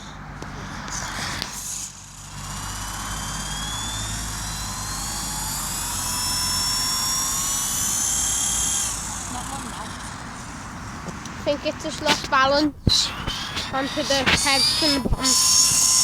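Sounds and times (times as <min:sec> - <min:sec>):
electric rotor motors whining: 0:00.0 - 0:16.0.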